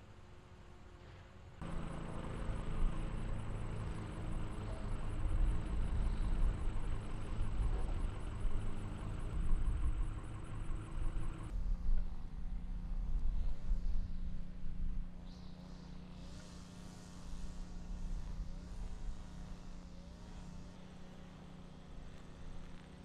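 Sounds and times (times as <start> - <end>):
engine running with low rumble: 0.0 - 23.0.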